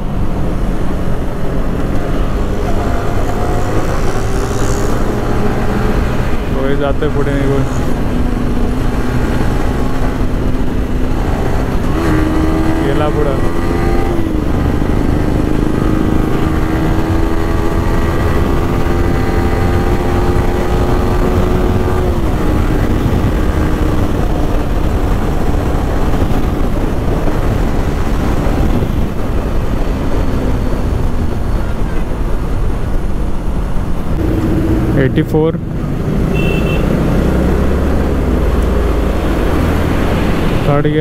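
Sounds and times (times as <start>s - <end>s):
motorcycle engine: 0.0s - 41.0s
wind rush on microphone: 0.0s - 41.0s.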